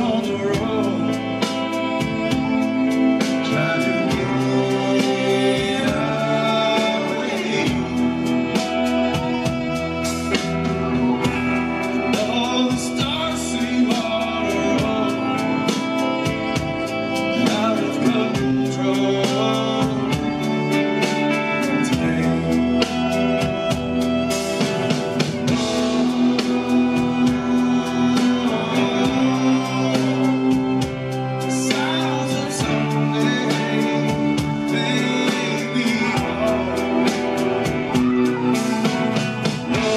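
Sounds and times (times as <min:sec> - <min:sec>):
bass guitar: 0:00.0 - 0:39.9
drum kit beat: 0:00.0 - 0:39.9
electric guitars: 0:00.0 - 0:39.9
man singing: 0:00.0 - 0:39.9.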